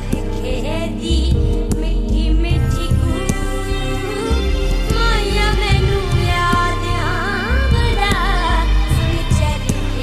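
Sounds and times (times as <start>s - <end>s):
deep bass beat: 0.0s - 10.0s.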